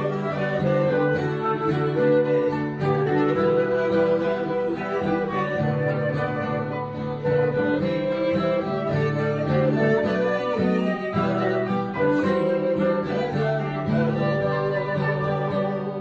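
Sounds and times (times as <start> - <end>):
guitar accompaniment: 0.0 - 16.0.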